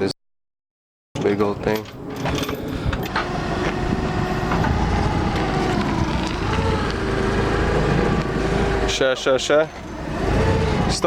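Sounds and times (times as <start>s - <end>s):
forklift engine running: 2.0s - 11.0s.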